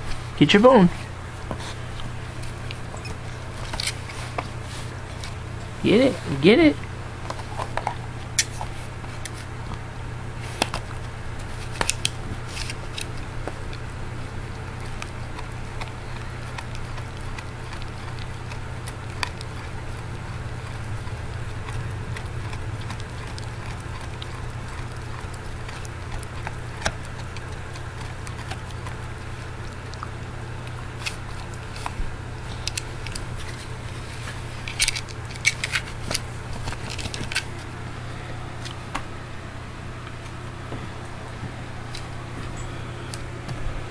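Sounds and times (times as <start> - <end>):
steady low hum: 0.0 - 43.9
dog gnawing on bone: 1.3 - 37.8.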